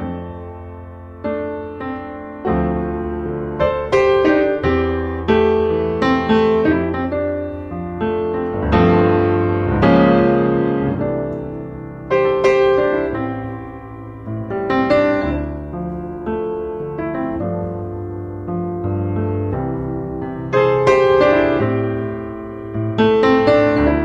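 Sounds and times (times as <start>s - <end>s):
piano chords: 0.0s - 24.0s.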